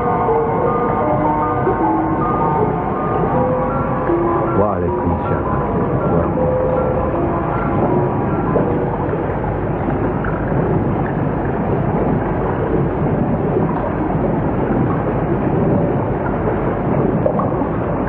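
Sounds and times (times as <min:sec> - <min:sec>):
steady rushing rumble: 0:00.0 - 0:18.0.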